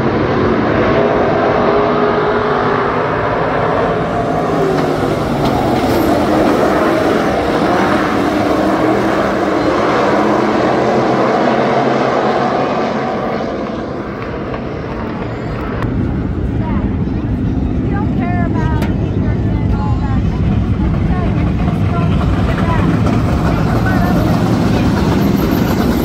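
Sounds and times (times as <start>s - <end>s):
race car engines at high revs: 0.0s - 26.0s.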